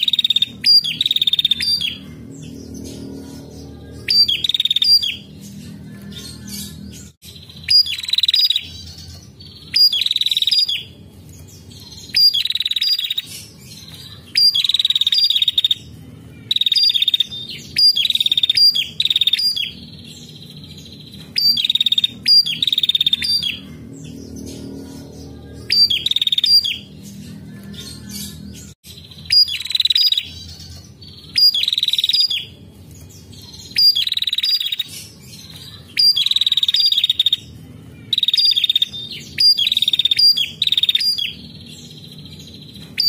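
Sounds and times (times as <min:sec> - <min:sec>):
warbler calling with buzzy trill: 0:00.0 - 0:43.0.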